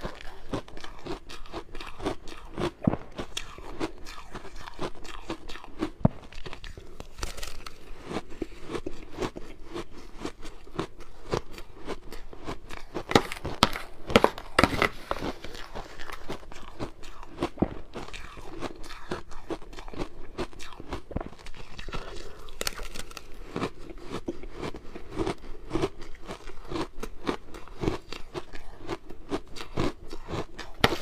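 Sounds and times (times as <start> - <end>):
ice crunching while chewed: 0.0 - 31.0.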